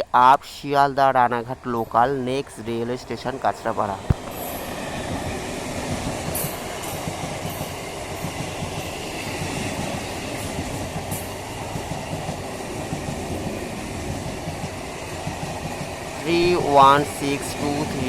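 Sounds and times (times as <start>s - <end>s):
train coaches rumbling: 0.0s - 18.0s
wheels clattering over rail joints: 1.6s - 18.0s.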